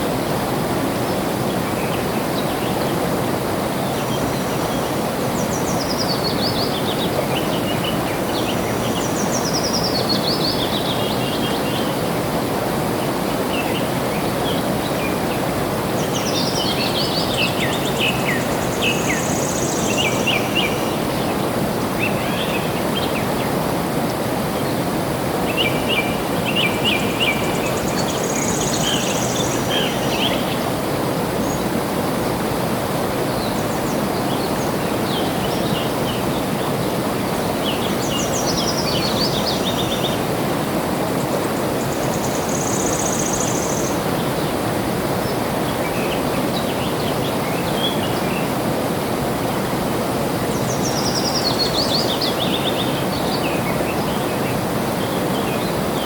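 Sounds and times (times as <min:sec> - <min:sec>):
songbirds chirping: 0:01.0 - 0:56.0.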